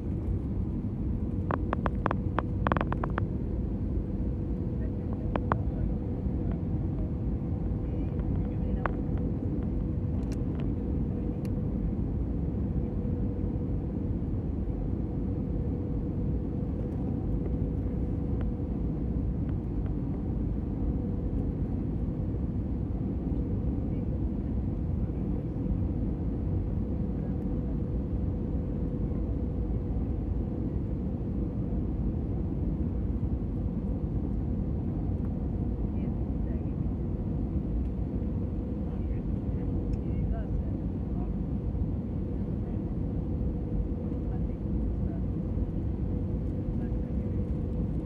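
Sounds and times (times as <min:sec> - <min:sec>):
jet engines roaring in cabin: 0:00.0 - 0:48.0.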